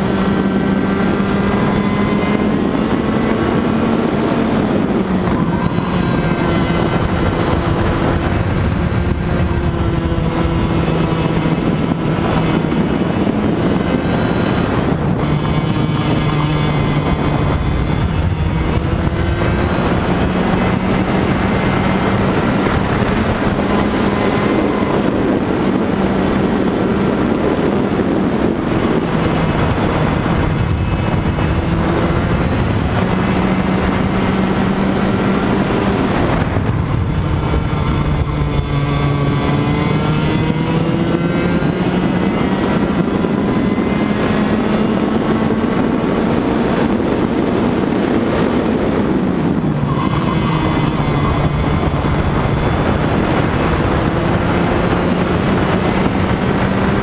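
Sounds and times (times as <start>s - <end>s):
kart engine running hard: 0.0s - 57.0s
wind rush: 0.0s - 57.0s.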